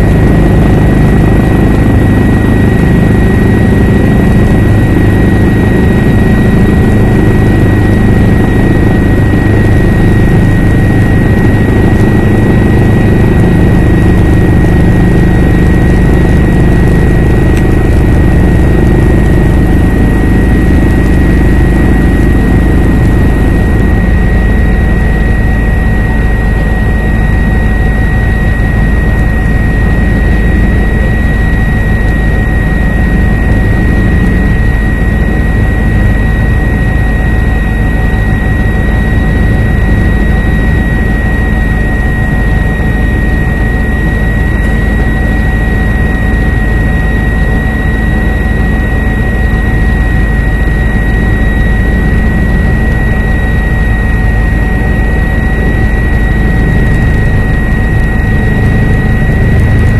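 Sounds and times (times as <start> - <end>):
helicopter rotor and engine drone: 0.0 - 59.9
high whine: 0.0 - 59.9.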